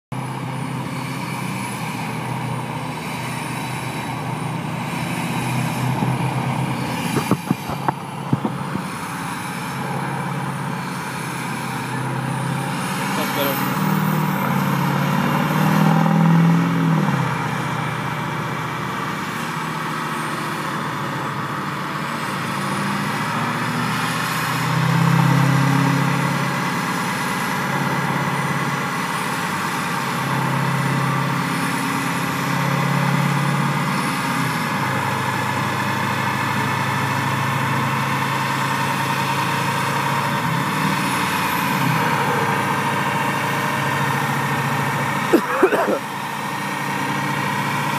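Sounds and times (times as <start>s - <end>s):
diesel engine running: 0.1s - 47.9s.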